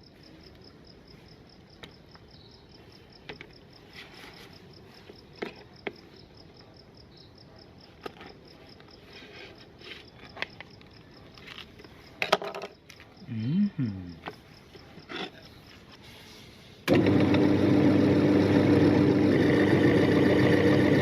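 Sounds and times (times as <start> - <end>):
insect chirping: 0.0 - 16.8.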